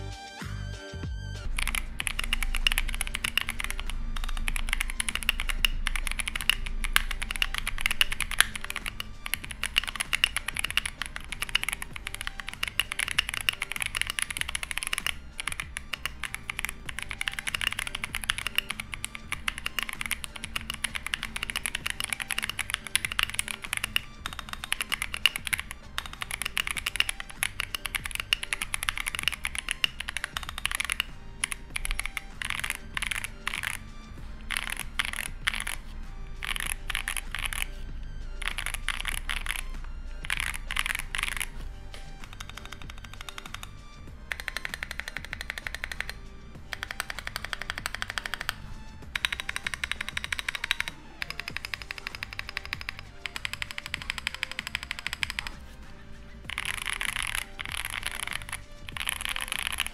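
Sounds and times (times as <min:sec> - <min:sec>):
mechanical keyboard typing: 0:01.5 - 0:59.9.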